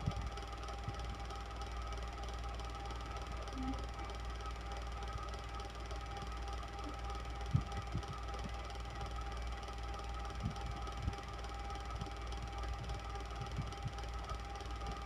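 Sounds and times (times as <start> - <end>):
electric fan motor humming: 0.0 - 15.0.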